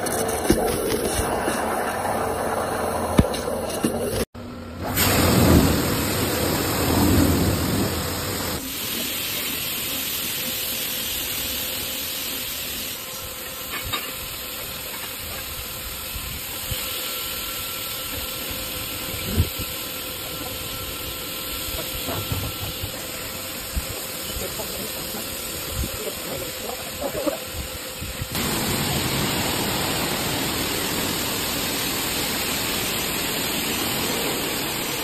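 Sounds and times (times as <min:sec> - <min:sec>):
high-pressure water spray hiss: 0:05.0 - 0:35.0.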